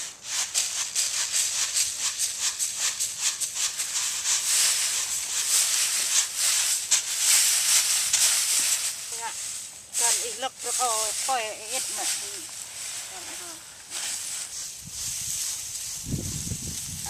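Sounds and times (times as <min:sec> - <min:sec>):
rice rattling on bamboo tray: 0:00.0 - 0:17.0.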